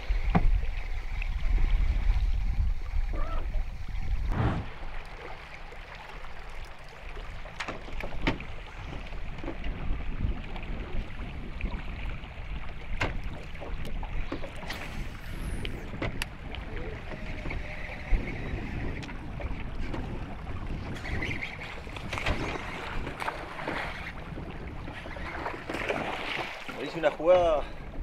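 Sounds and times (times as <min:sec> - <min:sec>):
wind buffeting microphone: 0:00.0 - 0:05.0, 0:07.3 - 0:26.4
water lapping against boat: 0:00.0 - 0:28.0.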